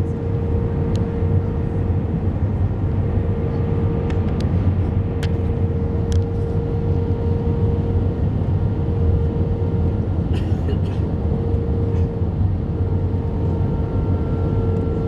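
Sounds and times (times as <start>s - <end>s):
aircraft engines and airflow rumble: 0.0s - 15.0s
constant cabin hum: 0.0s - 15.0s.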